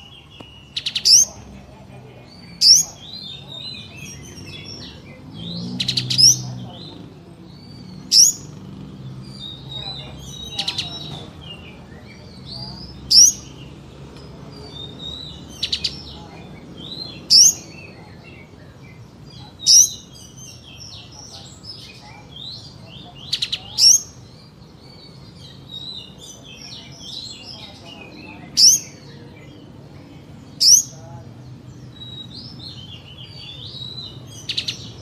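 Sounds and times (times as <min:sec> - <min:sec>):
bird twittering: 0:00.0 - 0:35.0.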